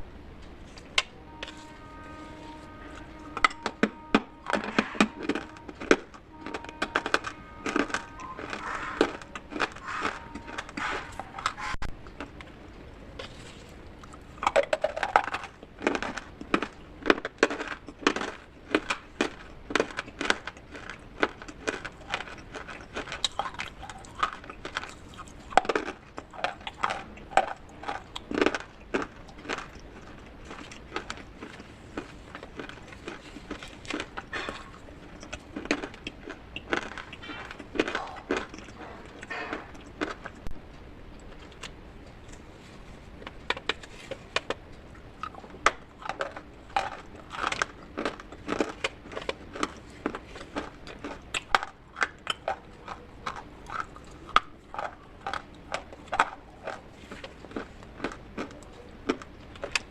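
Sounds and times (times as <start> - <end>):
clay pot pieces crunching: 0.7 - 12.5, 13.1 - 40.5, 45.2 - 59.9.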